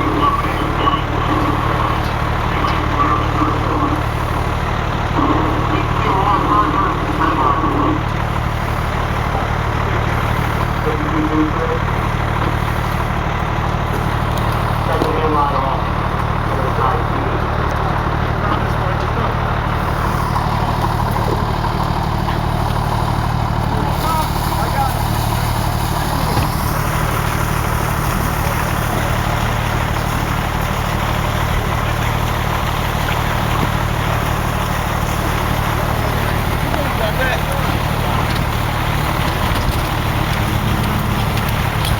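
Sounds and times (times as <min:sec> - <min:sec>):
fire engine idling: 0:00.0 - 0:41.9.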